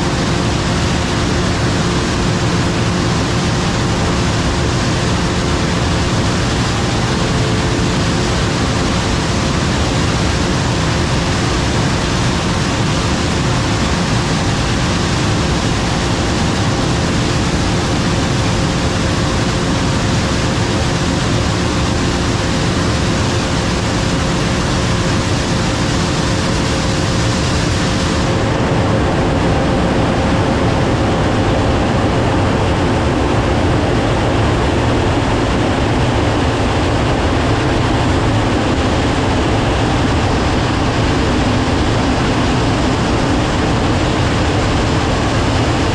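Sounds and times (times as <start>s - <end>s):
combine harvester machine rush: 0.0s - 45.9s
engine hum: 0.0s - 45.9s.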